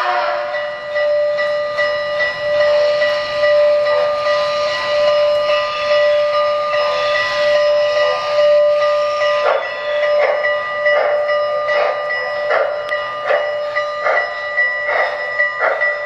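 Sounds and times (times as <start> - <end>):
model train whistle: 0.0 - 1.0, 2.6 - 16.0.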